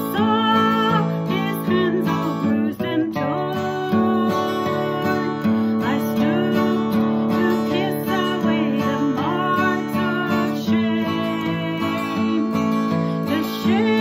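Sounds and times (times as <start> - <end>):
acoustic guitar strumming: 0.0 - 14.0
woman singing: 0.0 - 14.0.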